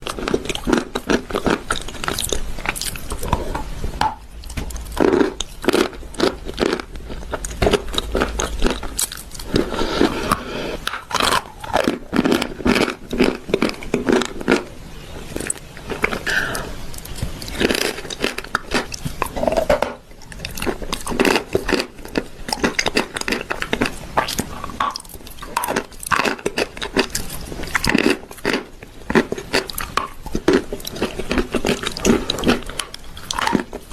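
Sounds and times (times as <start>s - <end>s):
chewing and crunching: 0.0s - 3.7s, 4.3s - 33.9s.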